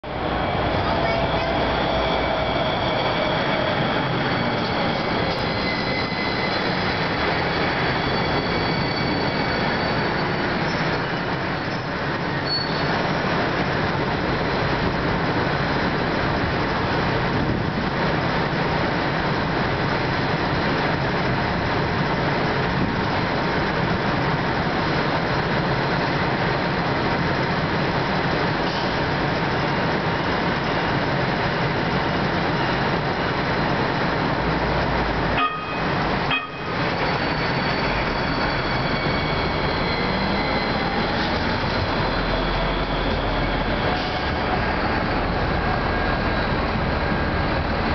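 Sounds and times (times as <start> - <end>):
faint train whines: 0.0 - 47.9
light rail train running: 0.0 - 47.9.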